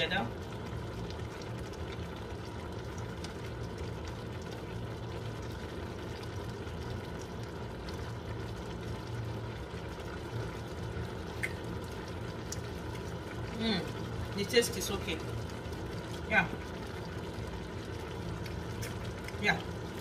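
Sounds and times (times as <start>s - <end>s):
sauce simmering in a pan: 0.0s - 20.0s
steady low hum: 0.0s - 20.0s.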